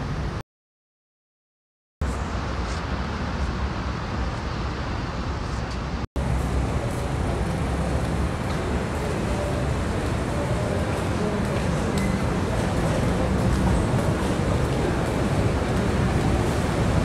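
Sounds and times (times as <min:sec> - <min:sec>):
road traffic rumble: 0:02.0 - 0:17.0.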